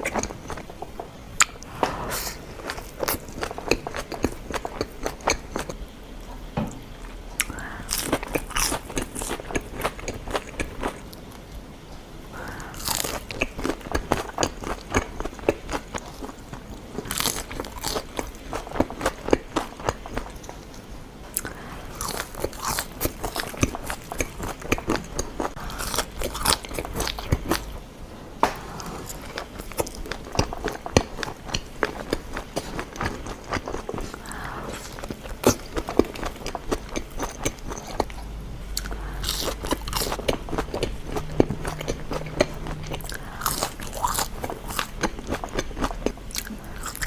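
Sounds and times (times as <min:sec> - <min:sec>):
crunchy food being chewed: 0:00.0 - 0:01.7, 0:02.3 - 0:05.8, 0:07.0 - 0:11.4, 0:12.4 - 0:27.8, 0:28.8 - 0:47.0.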